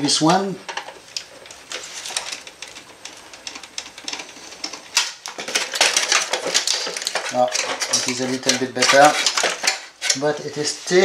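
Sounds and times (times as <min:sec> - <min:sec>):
printer parts clicking and rattling: 0:00.7 - 0:11.0.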